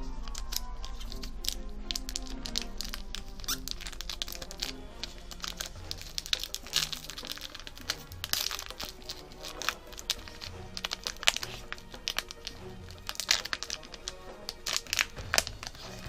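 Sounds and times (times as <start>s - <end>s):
background music: 0.0s - 16.0s
foil wrappers crinkling and tearing: 0.0s - 16.0s.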